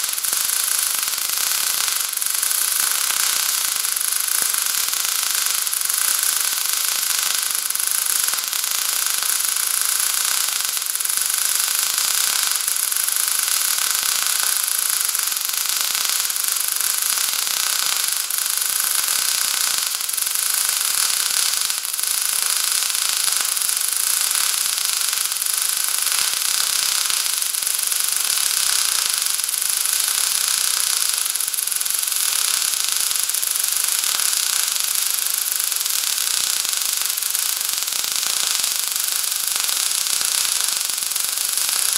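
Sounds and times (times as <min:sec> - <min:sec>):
welding arc hissing and crackling: 0:00.0 - 0:41.9.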